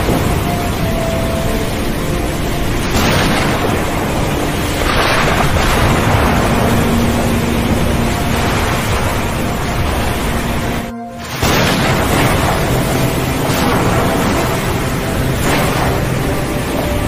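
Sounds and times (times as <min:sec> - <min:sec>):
faint held music tones: 0:00.0 - 0:17.0
sea waves breaking: 0:00.0 - 0:17.0.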